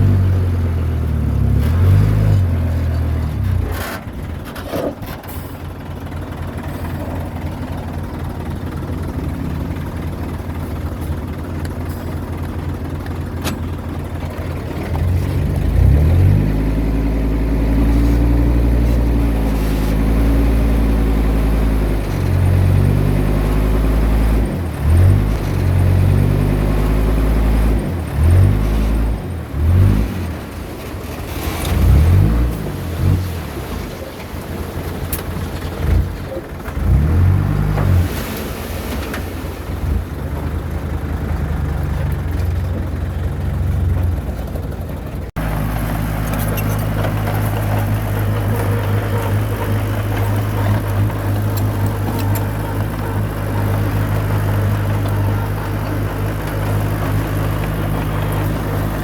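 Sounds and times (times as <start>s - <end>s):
bulldozer diesel engine revving: 0.0s - 59.0s.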